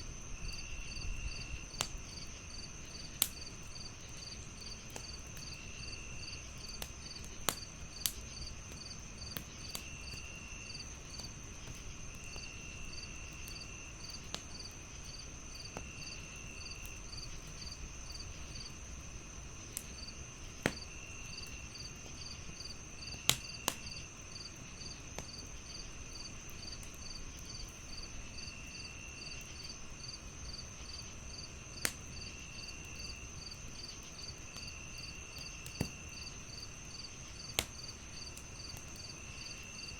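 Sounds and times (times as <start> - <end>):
crickets chirping: 0.0 - 39.9
wood fire crackling: 0.0 - 39.9.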